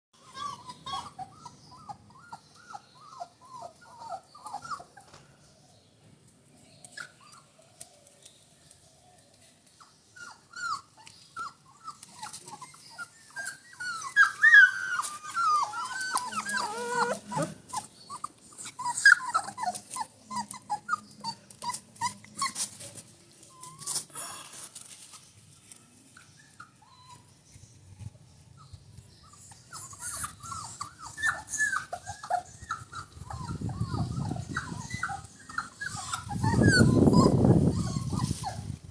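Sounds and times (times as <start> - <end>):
puppies whimpering and squeaking: 0.2 - 5.1, 9.8 - 24.2, 26.1 - 27.6, 28.4 - 38.8.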